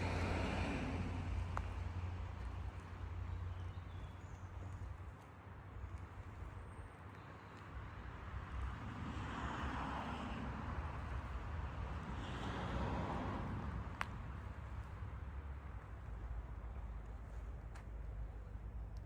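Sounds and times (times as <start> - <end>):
vehicle low rumble: 0.0 - 19.0.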